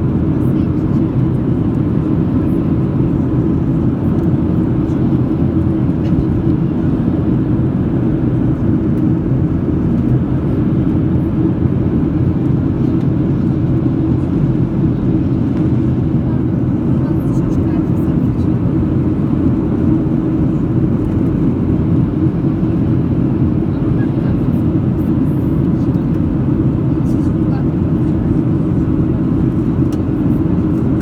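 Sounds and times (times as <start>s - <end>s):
jet engines droning: 0.0s - 31.0s.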